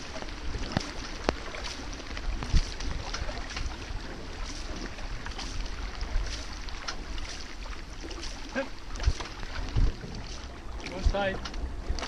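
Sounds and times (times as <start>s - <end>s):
paddle splashes: 0.0s - 12.0s
water rushing along hull: 0.0s - 12.0s
wind rumbling on microphone: 0.0s - 12.0s.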